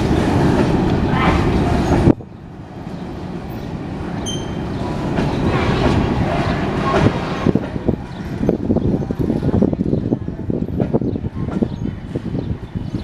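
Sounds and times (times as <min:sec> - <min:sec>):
train wheels clattering on track: 0:00.0 - 0:02.2, 0:02.8 - 0:13.0
rail rumble: 0:00.0 - 0:13.0.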